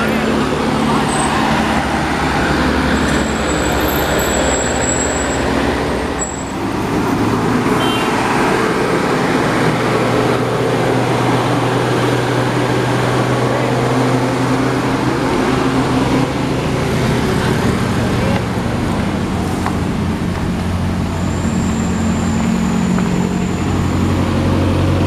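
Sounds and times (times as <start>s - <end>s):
truck driving past: 0.0s - 25.0s.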